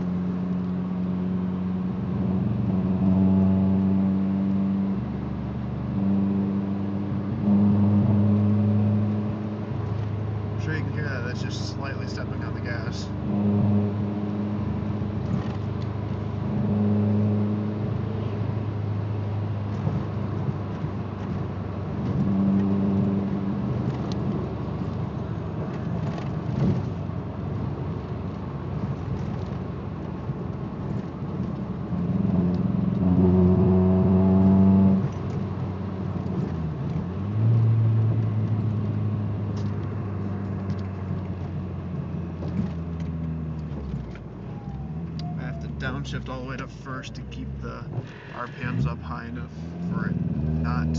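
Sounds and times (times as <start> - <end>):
car engine droning rough: 0.0 - 50.9.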